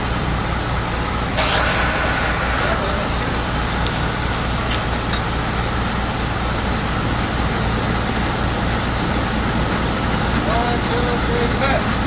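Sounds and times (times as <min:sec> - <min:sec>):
drilling rig machinery running: 0:00.0 - 0:12.0.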